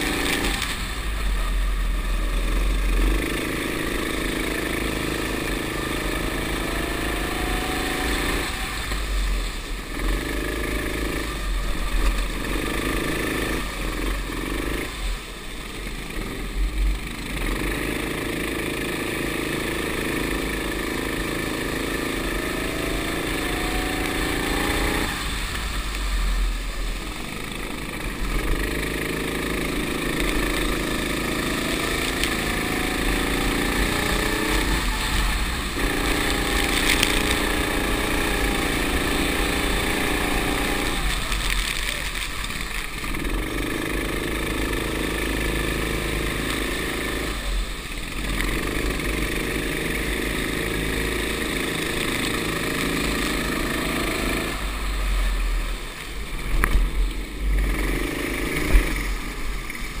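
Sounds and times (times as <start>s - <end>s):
go-kart engine revving: 0.0s - 60.0s
wind and tyre spray hiss: 0.0s - 60.0s.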